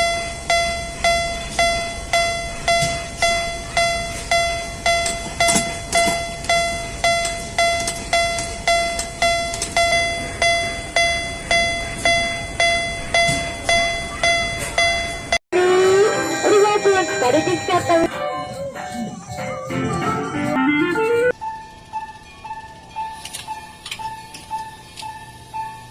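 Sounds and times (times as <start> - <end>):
railroad crossing bell ringing: 0.0 - 25.9.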